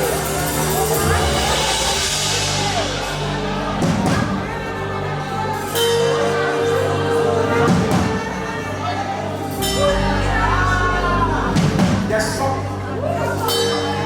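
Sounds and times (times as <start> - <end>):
person singing: 0.0 - 14.0
sustained keyboard chords: 0.0 - 14.0.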